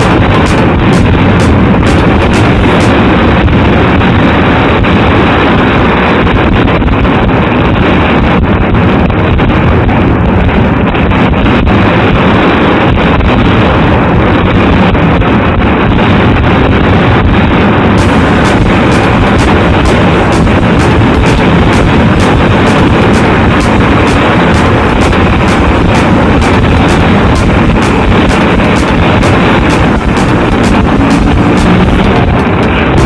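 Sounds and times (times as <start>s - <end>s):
loud fireworks rumble: 0.0s - 33.0s.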